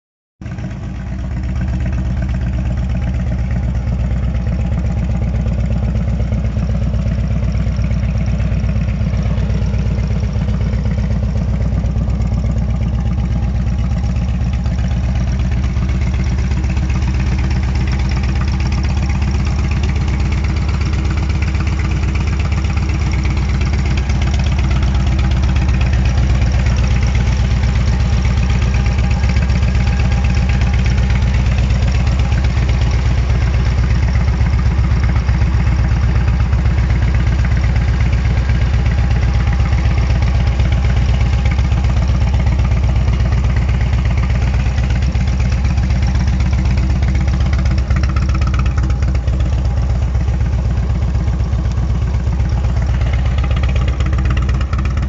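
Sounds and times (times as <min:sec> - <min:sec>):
motorcycle engine idling: 0:00.4 - 0:55.0.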